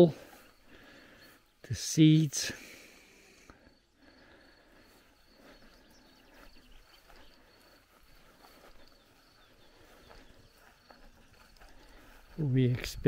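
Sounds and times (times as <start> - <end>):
high insect chirping: 0.0 - 13.0.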